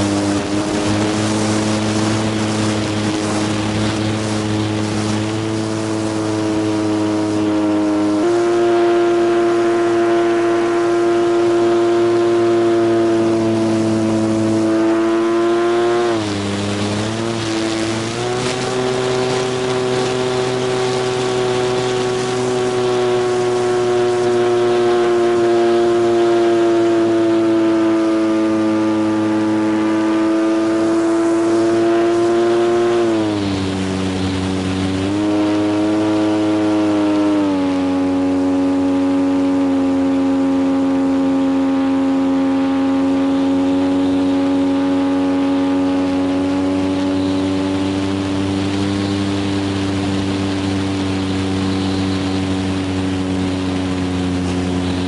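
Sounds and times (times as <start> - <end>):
model plane electric motor: 0.0 - 55.0.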